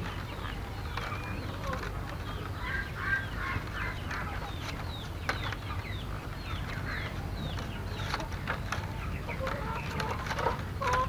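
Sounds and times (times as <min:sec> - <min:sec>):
chickens clucking: 0:00.0 - 0:11.0
small birds chirping: 0:00.0 - 0:11.0.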